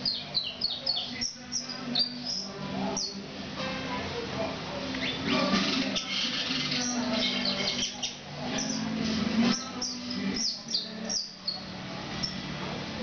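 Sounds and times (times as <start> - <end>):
canary chirping: 0.0 - 3.3, 4.0 - 12.6.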